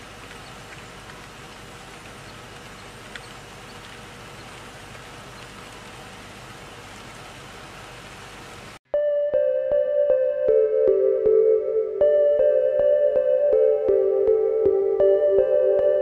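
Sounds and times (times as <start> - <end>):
faint steady hum: 0.0 - 16.0
outdoor background hiss: 0.0 - 16.0.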